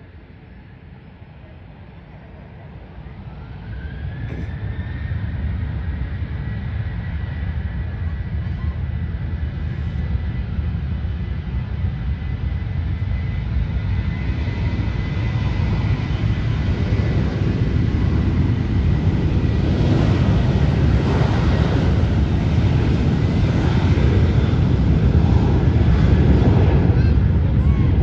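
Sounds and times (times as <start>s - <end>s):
high engine whine: 0.0s - 28.0s
jet airliner engines rumbling: 0.0s - 28.0s.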